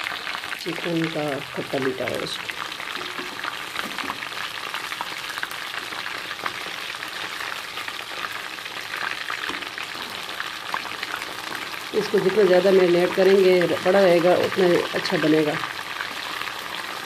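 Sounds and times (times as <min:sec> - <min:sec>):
chicken frying in oil: 0:00.0 - 0:17.0.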